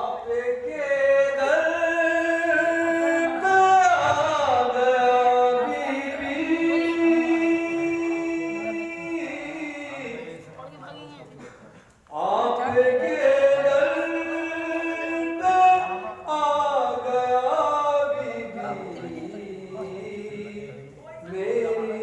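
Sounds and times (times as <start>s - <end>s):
man singing: 0.0s - 10.5s, 12.1s - 22.0s.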